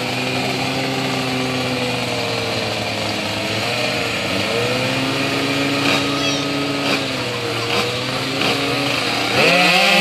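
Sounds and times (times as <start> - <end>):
two-stroke scooter engines buzzing: 0.0 - 10.0.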